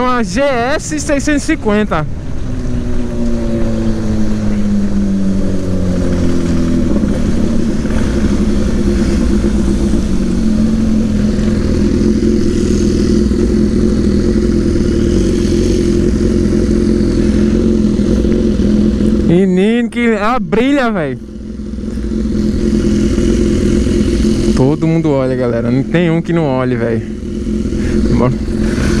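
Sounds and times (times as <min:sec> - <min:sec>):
motorcycle engine slowing down: 0:00.0 - 0:29.0.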